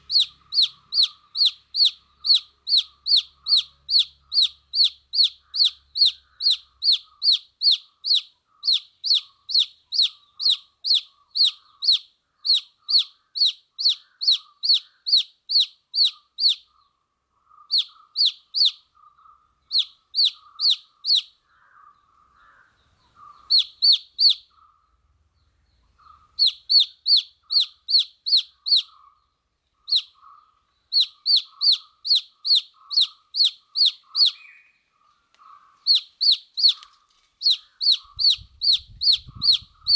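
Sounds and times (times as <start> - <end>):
chick peeping loudly: 0.0 - 16.6, 17.6 - 18.9, 19.7 - 21.4, 23.2 - 24.6, 26.0 - 29.2, 29.9 - 34.6, 35.5 - 39.9
fainter chicks cheeping: 0.0 - 39.9.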